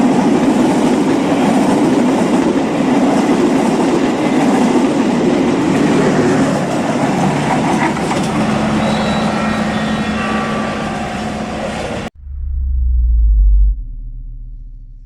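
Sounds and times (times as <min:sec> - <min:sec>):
train rumbling on track: 0:00.0 - 0:13.2.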